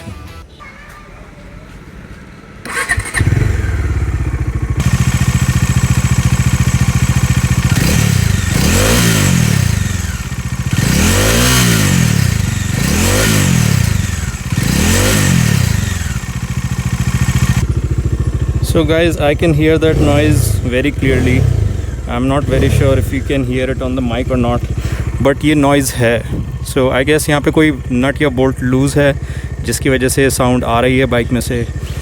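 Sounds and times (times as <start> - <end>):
motorcycle engine starting and idling: 2.1 - 32.0
motorcycle engine revving: 2.6 - 32.0.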